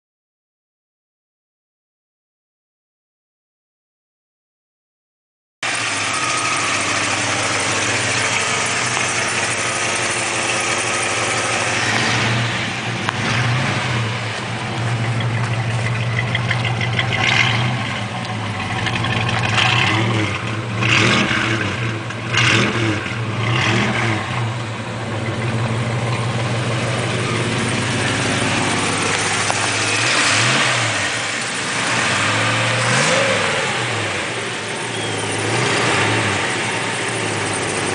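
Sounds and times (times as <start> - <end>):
engine idling and revving: 5.6 - 37.9.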